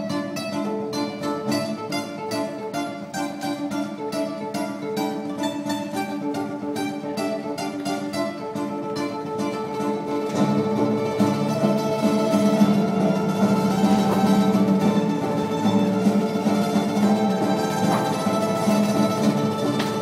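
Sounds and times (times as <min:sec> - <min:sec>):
acoustic guitar fingerstyle: 0:00.0 - 0:20.0.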